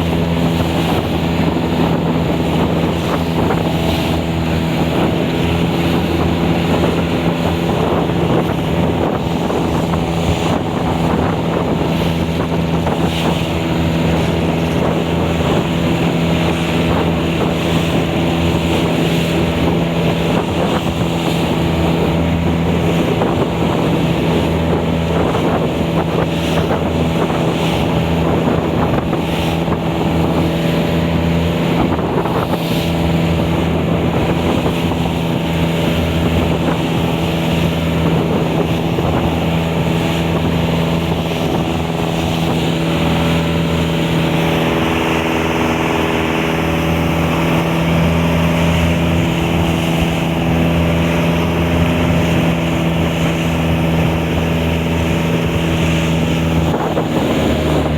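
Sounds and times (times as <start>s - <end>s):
motorboat engine droning: 0.0s - 57.9s
rushing water noise: 0.0s - 57.9s.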